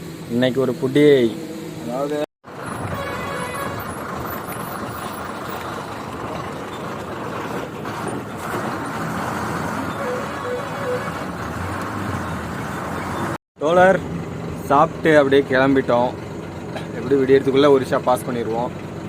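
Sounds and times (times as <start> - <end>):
lorry engine running: 0.0 - 19.0
road noise: 0.0 - 19.0.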